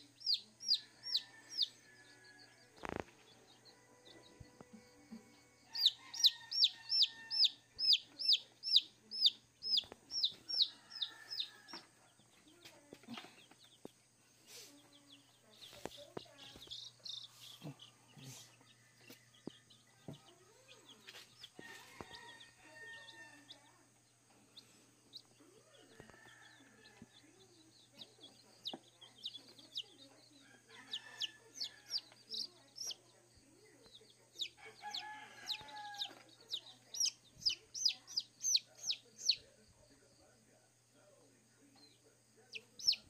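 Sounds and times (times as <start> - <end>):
chicks peeping: 0.0 - 4.8, 5.6 - 40.1, 41.7 - 43.0.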